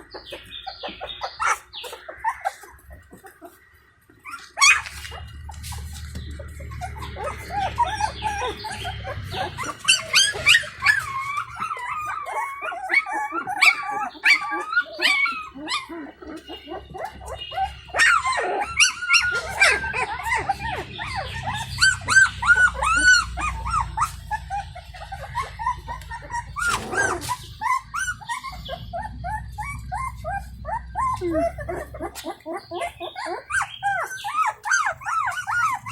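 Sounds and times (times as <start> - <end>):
puppies whimpering and crying: 0.0 - 35.9.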